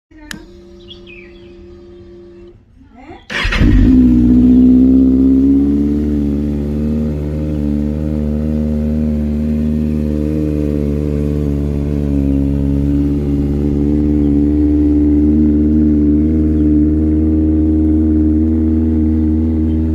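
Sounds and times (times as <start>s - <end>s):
motorcycle engine idling: 0.1s - 2.6s, 3.2s - 19.9s.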